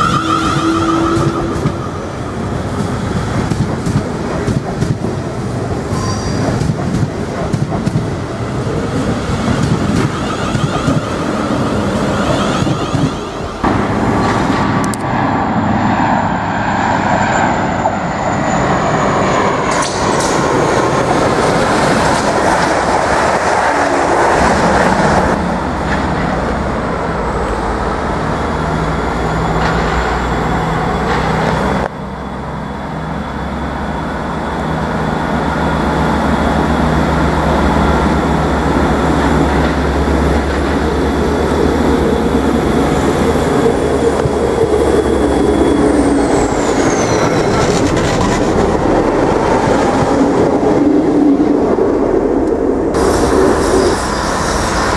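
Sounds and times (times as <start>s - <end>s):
diesel train engine hum: 0.0s - 54.9s
electric train wheels on rails: 0.0s - 54.9s.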